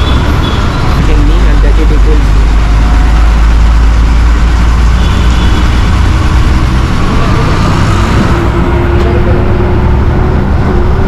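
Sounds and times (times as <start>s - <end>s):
bus engine rumble inside cabin: 0.0s - 11.0s.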